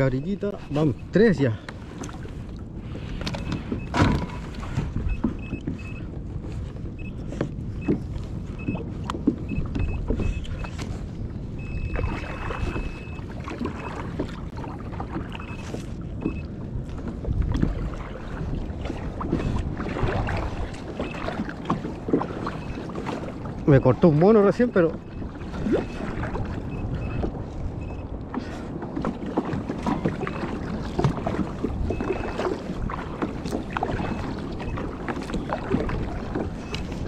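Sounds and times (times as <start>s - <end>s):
water lapping against hull: 0.0s - 37.0s.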